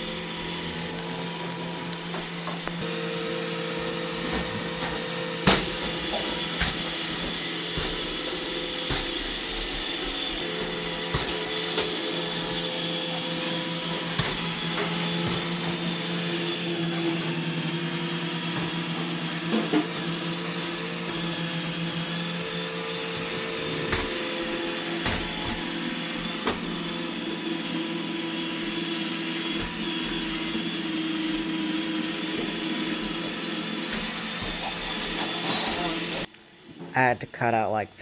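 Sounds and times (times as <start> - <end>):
robot vacuum motor humming: 0.0 - 36.3.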